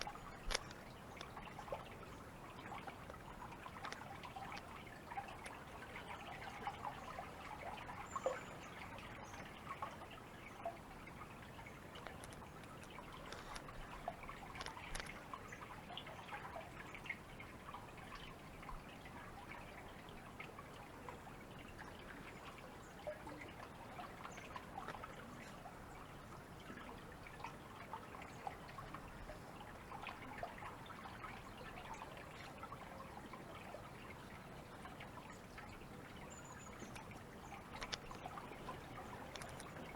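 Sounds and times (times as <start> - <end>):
small water drips: 0.0 - 39.9
water trickling and splashing: 0.0 - 39.9.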